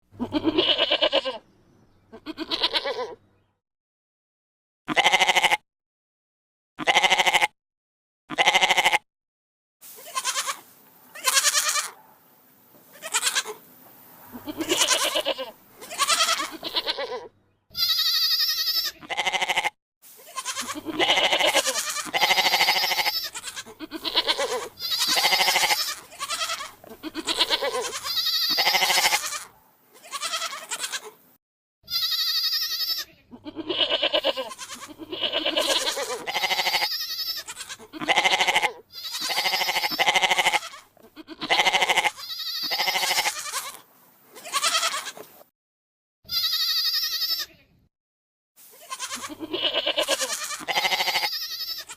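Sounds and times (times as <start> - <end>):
goats bleating: 0.2 - 1.4, 2.1 - 3.2, 4.9 - 5.6, 6.8 - 7.5, 8.3 - 9.0, 10.0 - 12.0, 12.9 - 13.6, 14.3 - 31.2, 31.9 - 45.3, 46.3 - 47.6, 48.7 - 51.9.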